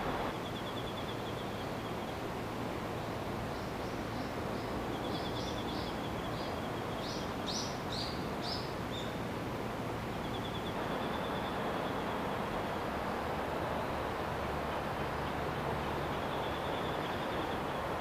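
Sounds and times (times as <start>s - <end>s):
steady noise hiss: 0.0s - 18.0s.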